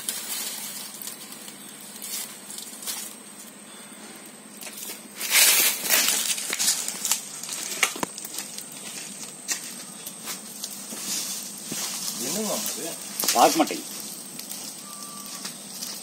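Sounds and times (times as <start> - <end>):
dry fronds rustling: 0.0 - 16.0
kindling crackling and snapping: 0.0 - 16.0.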